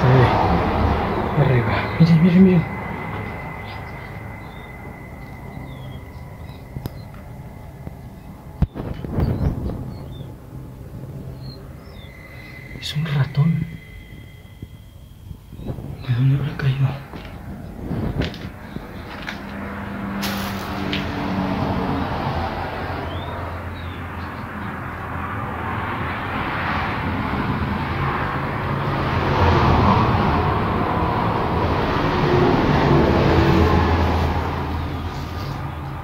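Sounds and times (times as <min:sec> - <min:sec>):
highway traffic rushing: 0:00.0 - 0:36.0
low hum: 0:00.0 - 0:36.0.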